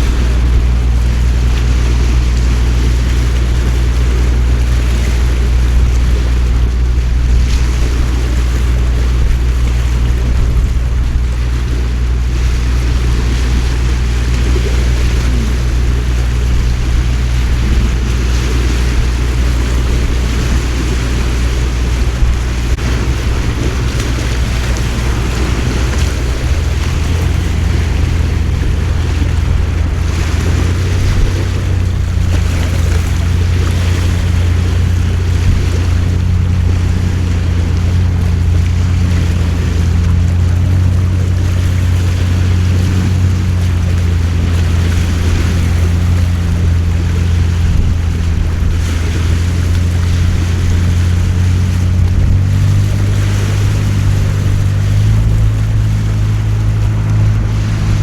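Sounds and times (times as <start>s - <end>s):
boat engine droning: 0.0s - 58.0s
rain and water hiss: 0.0s - 58.0s.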